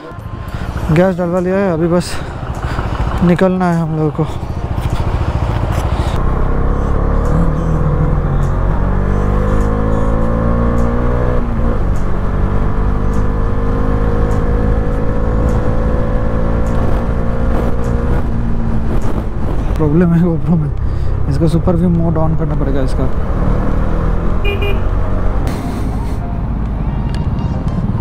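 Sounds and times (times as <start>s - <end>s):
motorcycle engine accelerating: 0.0s - 26.6s.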